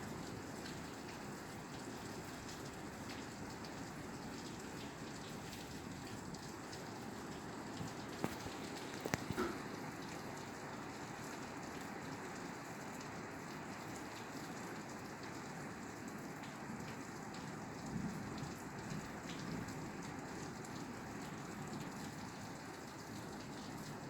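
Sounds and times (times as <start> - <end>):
rain falling on a roof: 0.0 - 24.0.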